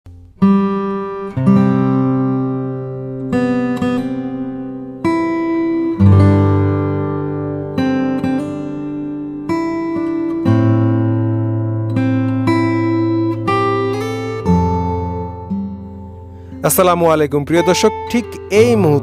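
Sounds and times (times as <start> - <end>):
acoustic guitar strummed chords: 0.1 - 19.0.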